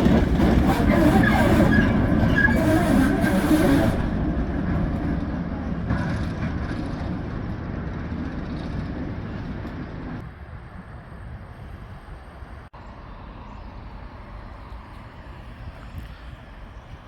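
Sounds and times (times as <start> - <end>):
locomotive rumbling: 0.0 - 16.9.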